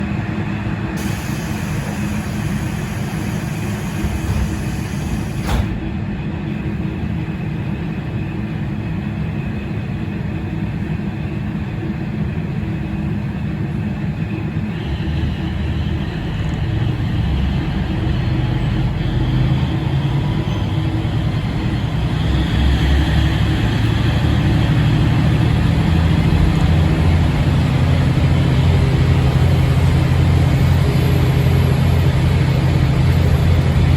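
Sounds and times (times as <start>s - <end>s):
diesel railcar engine running: 0.0s - 33.9s.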